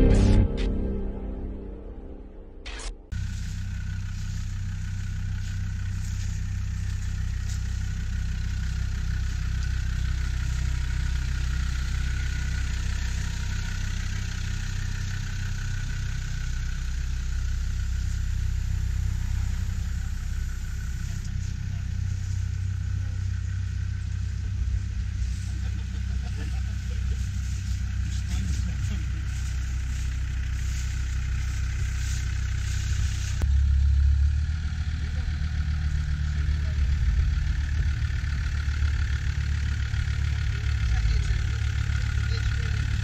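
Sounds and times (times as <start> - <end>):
engine running at low revs: 0.0 - 43.0.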